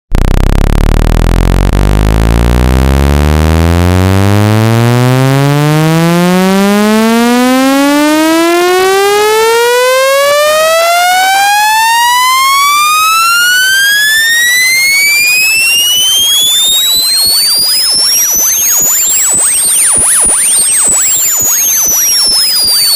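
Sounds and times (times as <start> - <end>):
rising electronic test tone: 0.1 - 22.9.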